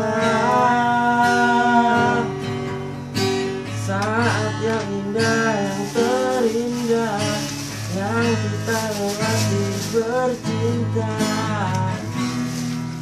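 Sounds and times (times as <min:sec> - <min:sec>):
man singing: 0:00.0 - 0:02.5, 0:03.6 - 0:13.0
acoustic guitar strumming: 0:00.0 - 0:13.0.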